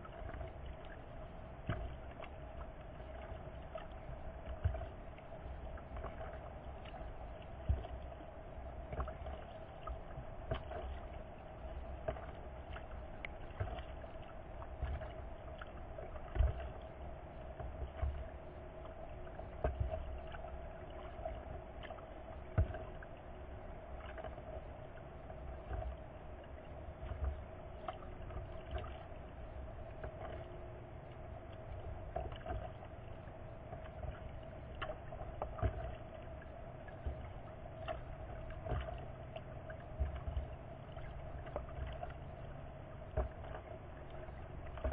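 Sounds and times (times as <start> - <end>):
faint steady hum: 0.0 - 44.9
water lapping around kayak: 0.0 - 44.9.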